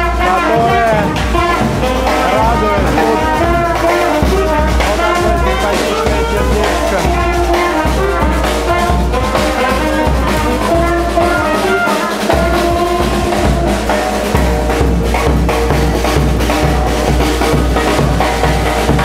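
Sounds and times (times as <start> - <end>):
bass drum beat: 0.0 - 19.0
saxophones and trumpet: 0.0 - 19.0
snare drum: 0.0 - 19.0.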